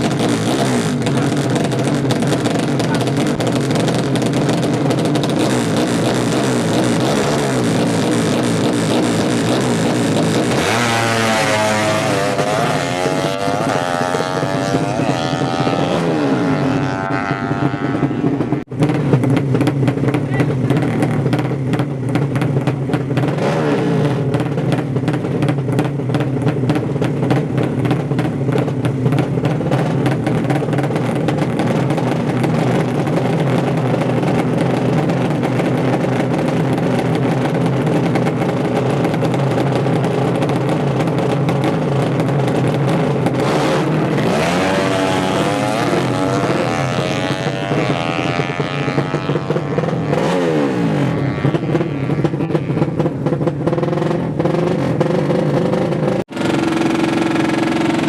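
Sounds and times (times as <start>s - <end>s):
motorcycle engine revving hard: 0.0s - 58.0s
motorcycle engines running loudly: 0.0s - 58.0s.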